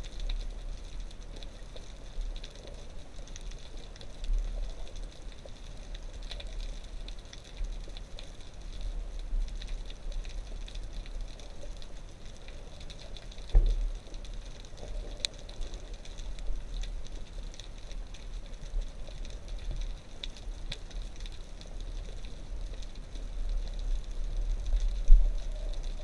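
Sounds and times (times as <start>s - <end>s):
small crackling clicks: 0.0s - 26.0s
underwater rumble: 0.0s - 26.0s.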